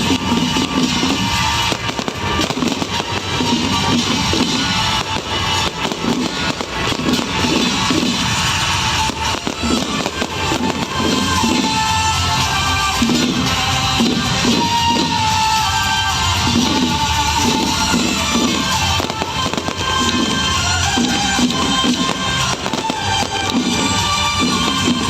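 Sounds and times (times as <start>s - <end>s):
fireworks crackling: 0.0s - 25.0s
loud music with steady beat: 0.0s - 25.0s.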